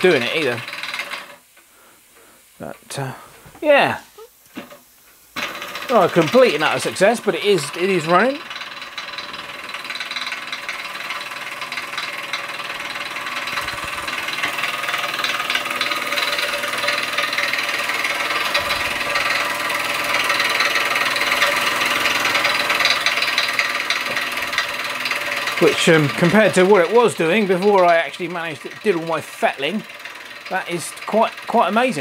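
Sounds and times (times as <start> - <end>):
toy steam engine clattering: 0.0 - 1.4, 5.4 - 32.0.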